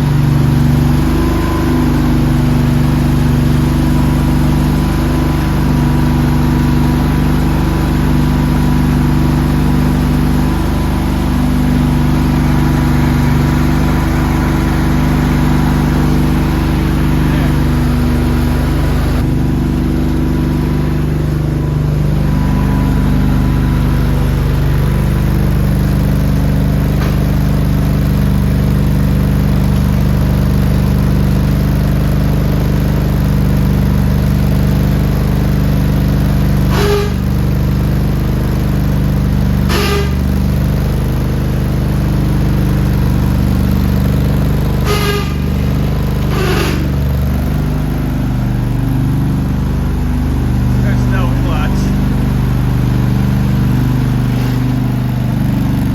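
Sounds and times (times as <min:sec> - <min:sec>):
riding lawn mower engine: 0:00.0 - 0:55.9.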